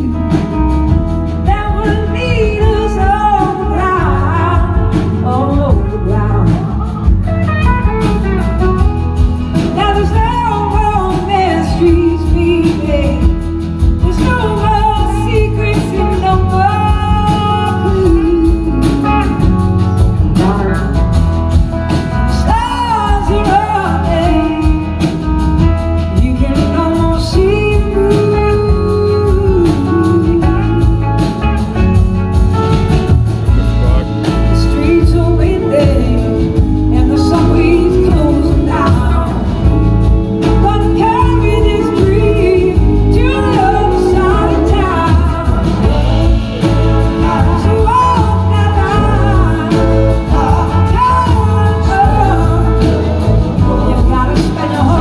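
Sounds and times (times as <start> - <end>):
woman singing: 0.0 - 7.3, 8.8 - 32.0, 34.3 - 55.0
live blues band through speakers: 0.0 - 55.0.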